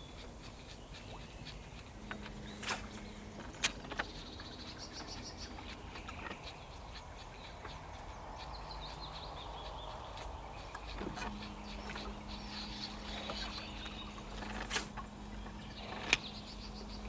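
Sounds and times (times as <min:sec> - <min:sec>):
small bird singing: 0:00.0 - 0:17.0.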